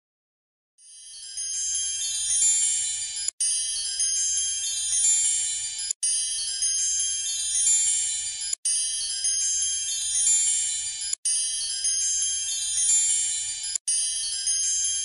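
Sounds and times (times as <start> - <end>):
tinkling chime-like music loop: 0.8 - 15.0.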